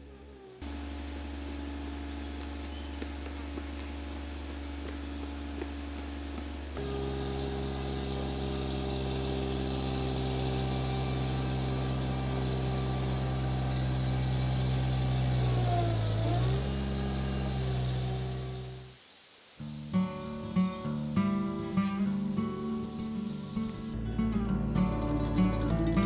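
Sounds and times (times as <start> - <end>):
vehicle engine running: 0.0 - 19.0, 21.1 - 26.0.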